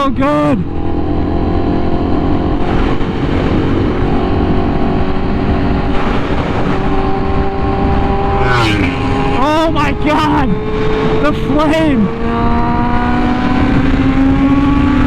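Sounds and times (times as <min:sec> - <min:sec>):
motorcycle engine cruising: 0:00.0 - 0:15.0
wind rush: 0:00.6 - 0:15.0.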